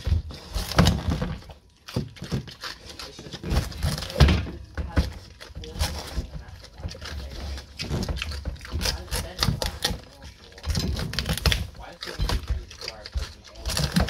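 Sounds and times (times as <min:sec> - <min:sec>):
pig chewing squash: 0:00.0 - 0:14.0.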